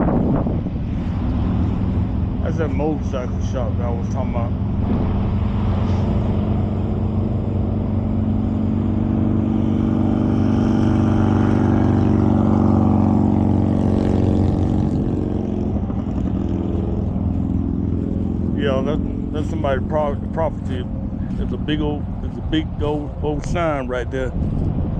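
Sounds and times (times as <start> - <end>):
truck diesel engine droning: 0.0 - 24.9.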